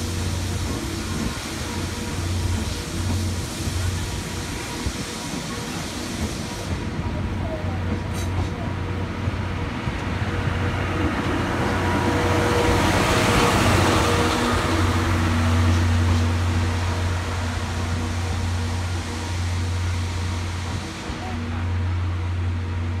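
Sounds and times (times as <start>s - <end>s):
train coaches rolling past: 0.0s - 23.0s.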